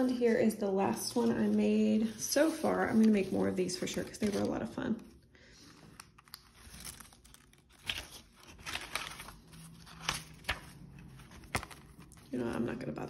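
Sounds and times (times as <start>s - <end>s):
paper rustling and crinkling: 0.9s - 5.0s, 5.6s - 13.0s
pages turning: 1.0s - 4.8s, 5.6s - 12.9s.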